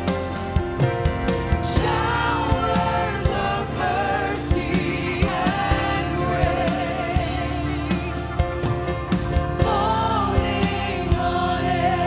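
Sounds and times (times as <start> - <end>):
band playing: 0.0 - 12.0
steady drum beat: 0.0 - 12.0
lead singer and choir: 1.3 - 12.0.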